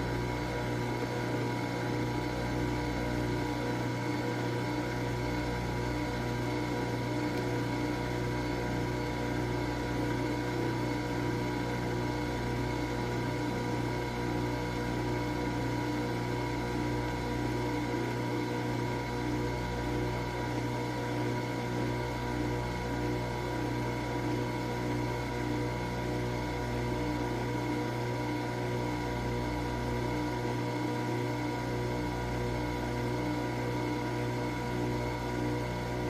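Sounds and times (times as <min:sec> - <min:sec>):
coffee machine humming: 0:00.0 - 0:36.0.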